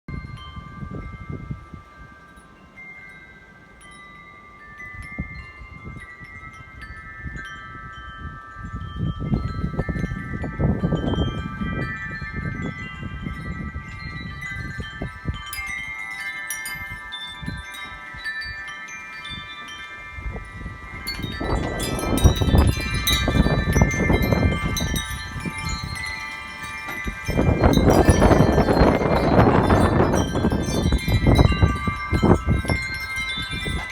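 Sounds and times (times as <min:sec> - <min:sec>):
wind rumbling on microphone: 0:00.1 - 0:02.4, 0:04.7 - 0:33.9
wind chimes ringing: 0:00.1 - 0:33.9.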